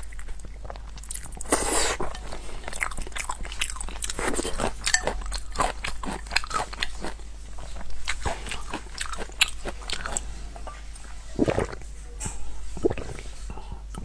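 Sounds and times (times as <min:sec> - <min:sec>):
crunchy food being chewed: 0:00.0 - 0:14.0.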